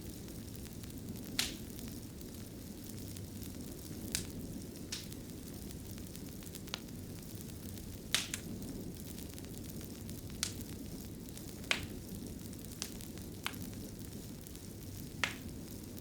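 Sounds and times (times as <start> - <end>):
crackling pops of fire: 0.0 - 16.0
fire burning low rumble: 0.0 - 16.0.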